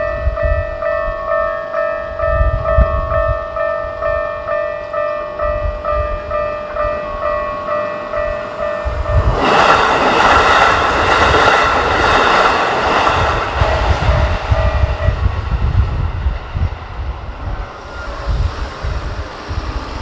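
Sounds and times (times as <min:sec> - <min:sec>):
crossing warning bell: 0:00.0 - 0:20.0
train rushing past: 0:00.0 - 0:20.0.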